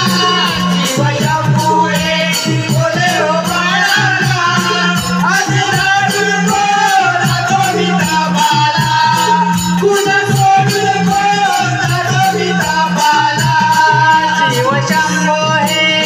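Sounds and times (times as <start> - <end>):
steady rattling beat: 0.0 - 16.0.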